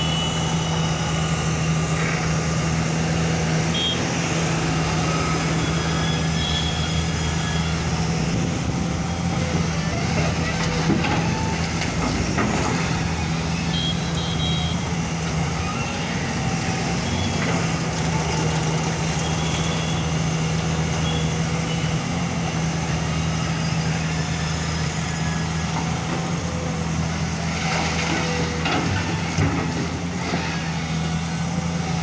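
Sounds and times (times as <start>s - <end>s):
diesel engine under load: 0.0s - 32.0s.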